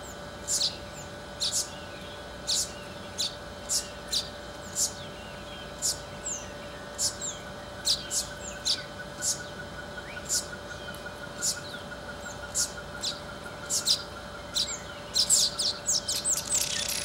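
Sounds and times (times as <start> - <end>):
faint steady hum: 0.0 - 17.0
small bird calling: 0.0 - 17.0.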